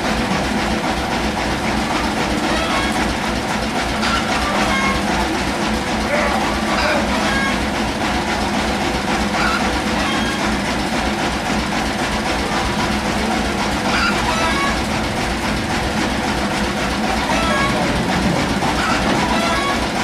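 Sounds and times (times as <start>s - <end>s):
sawmill machinery clattering: 0.0s - 20.0s.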